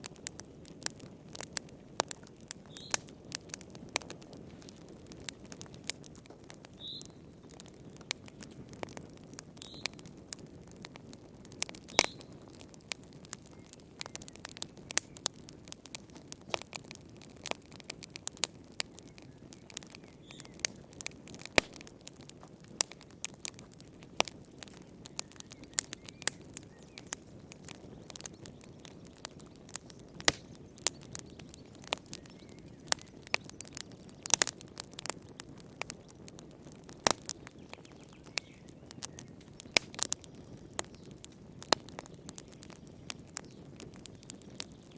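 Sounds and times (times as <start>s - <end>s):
low rush of flames: 0.0s - 44.9s
wood fire crackling and popping: 0.0s - 44.9s.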